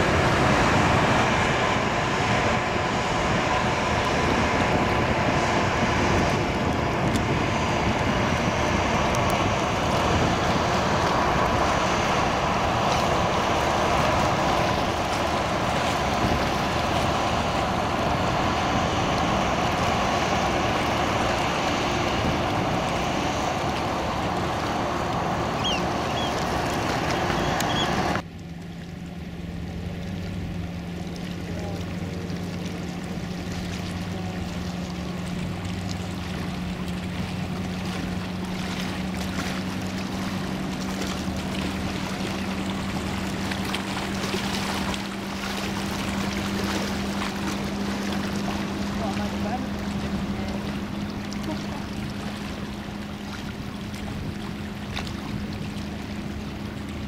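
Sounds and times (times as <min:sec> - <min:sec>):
ferry engines and wash rumbling: 0:00.0 - 0:57.0
motorboat engine drone: 0:00.0 - 0:57.0.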